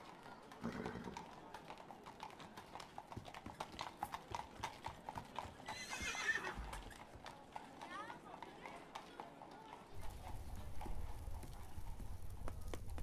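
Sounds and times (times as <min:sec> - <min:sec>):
horse hooves clip-clopping: 0:00.7 - 0:13.0.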